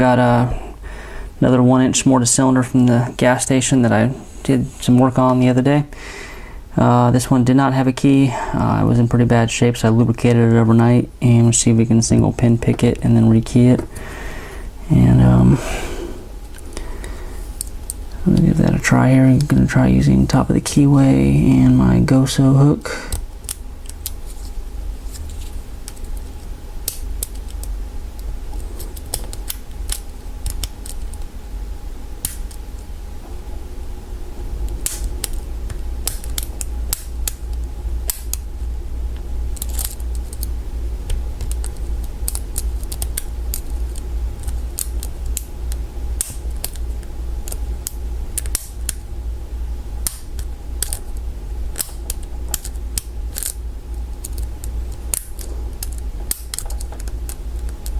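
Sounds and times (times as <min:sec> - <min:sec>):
steady low rumble: 0:00.0 - 0:57.9.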